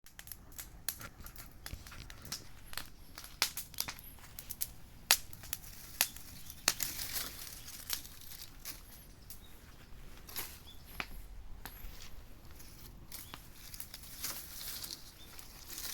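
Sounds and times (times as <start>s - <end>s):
bonfire crackling: 0.0s - 15.9s.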